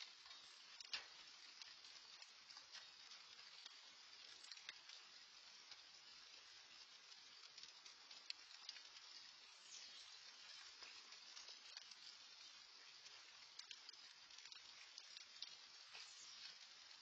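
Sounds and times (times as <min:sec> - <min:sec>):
faint rain pattering: 0:00.0 - 0:17.0.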